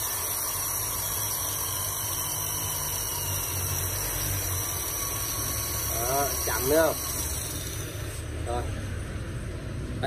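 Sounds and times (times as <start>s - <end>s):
electric drill running: 0.0s - 8.4s.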